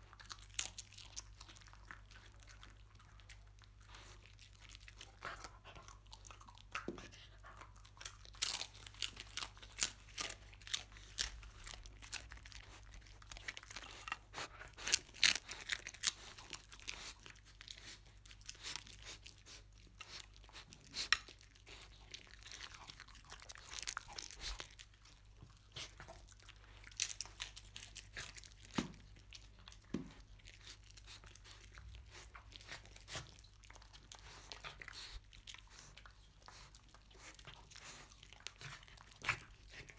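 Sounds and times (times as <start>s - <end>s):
dog crunching and chewing: 0.0s - 39.9s.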